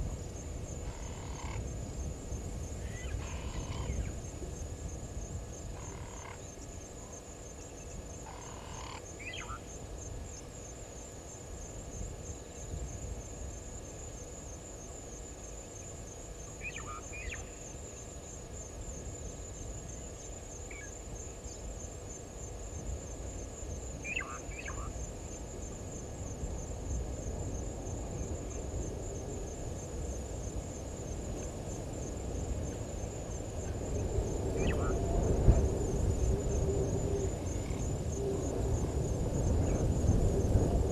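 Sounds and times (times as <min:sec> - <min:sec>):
high pulsing insect trill: 0:00.0 - 0:40.9.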